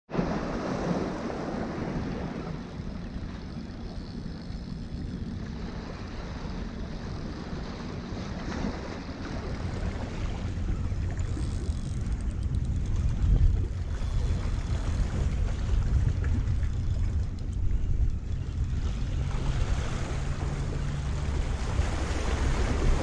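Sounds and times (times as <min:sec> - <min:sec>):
wind buffeting microphone: 0:00.1 - 0:23.0.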